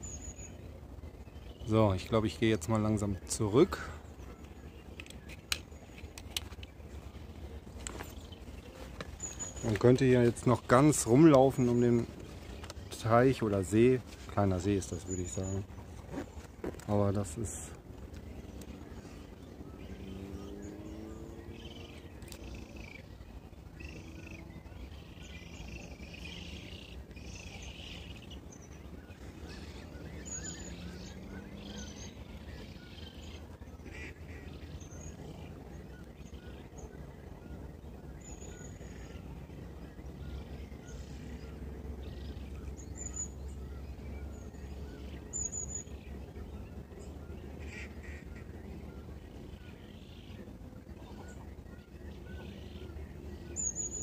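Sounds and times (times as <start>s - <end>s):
birds calling: 0.0s - 54.0s
steady low rumble: 0.0s - 54.0s.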